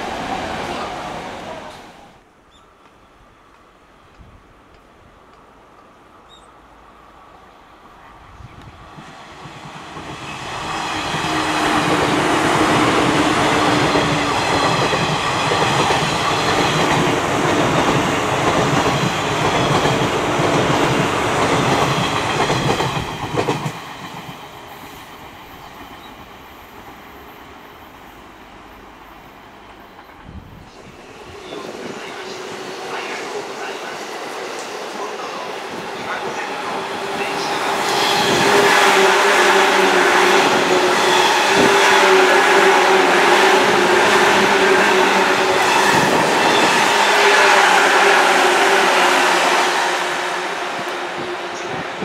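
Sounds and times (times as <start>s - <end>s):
electric train passing: 0.0s - 2.3s, 5.4s - 52.0s.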